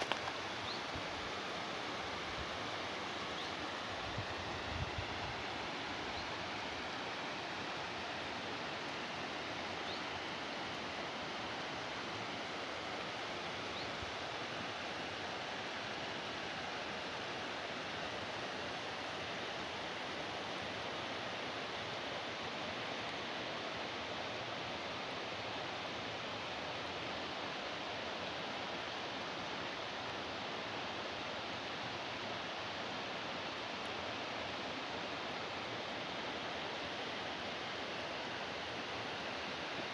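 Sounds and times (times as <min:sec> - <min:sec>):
water rushing along a channel: 0:00.0 - 0:39.9.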